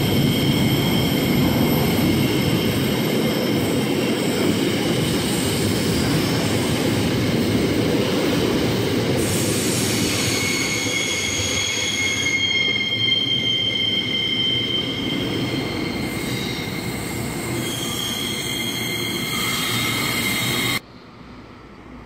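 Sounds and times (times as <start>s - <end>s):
train wheel squeal: 0.0s - 7.5s, 8.8s - 20.8s.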